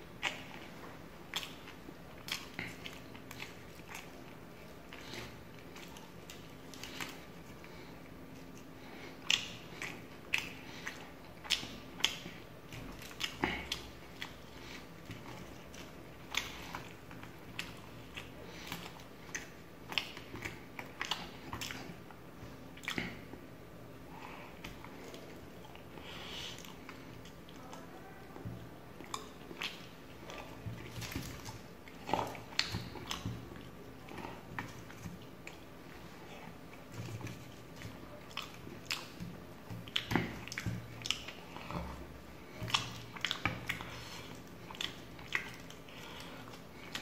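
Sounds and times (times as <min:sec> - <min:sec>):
chewing and biting: 0:00.2 - 0:23.4, 0:29.0 - 0:47.0.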